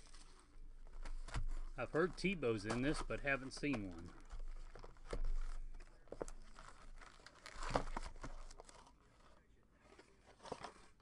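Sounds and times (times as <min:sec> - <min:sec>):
card pack wrapper crinkling: 0:00.0 - 0:11.0.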